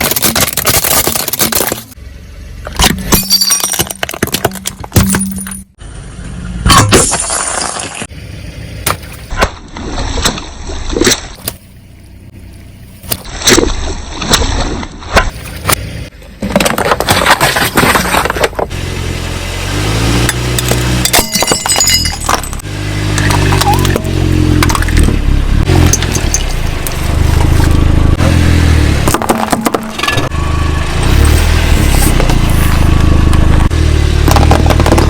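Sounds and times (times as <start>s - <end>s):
objects crunching under car tyres: 0.0s - 2.0s, 2.6s - 5.7s, 6.7s - 8.1s, 8.8s - 18.9s, 19.6s - 35.0s
car engine humming: 0.0s - 35.0s.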